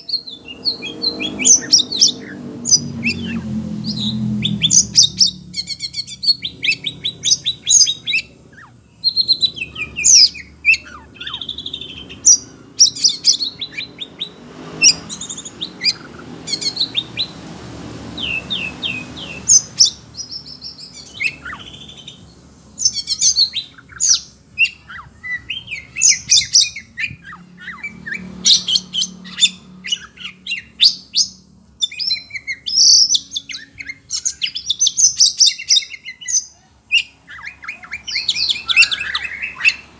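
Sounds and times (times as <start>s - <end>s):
bird singing rapid chirping phrases: 0.0s - 39.9s.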